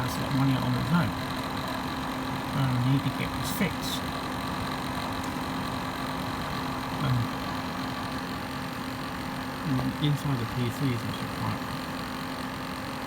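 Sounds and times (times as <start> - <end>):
computer cooler fans whirring: 0.0 - 13.0.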